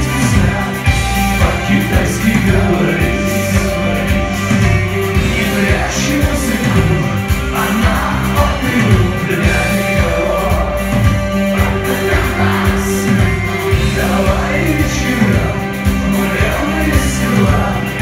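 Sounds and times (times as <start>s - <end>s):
drum beat: 0.0s - 18.0s
electric guitar: 0.0s - 18.0s
keyboards: 0.0s - 18.0s
man singing lead vocal: 0.0s - 18.0s.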